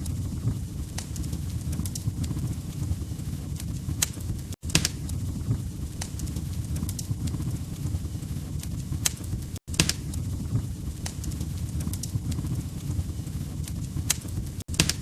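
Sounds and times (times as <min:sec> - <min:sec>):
log fire crackling: 0:00.0 - 0:15.0
low fire rumble: 0:00.0 - 0:15.0.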